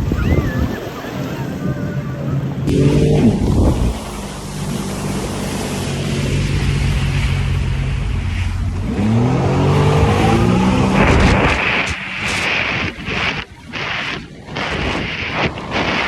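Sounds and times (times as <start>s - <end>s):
jet ski engine revving: 0.0s - 16.0s
water rushing: 0.0s - 16.0s.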